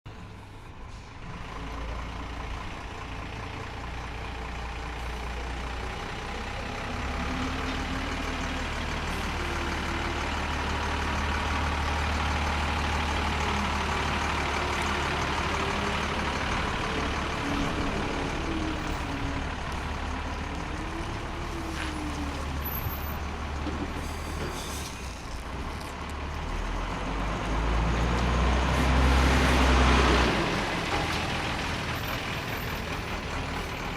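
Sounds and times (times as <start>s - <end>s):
old engine idling and revving: 1.4s - 24.1s, 25.1s - 33.9s.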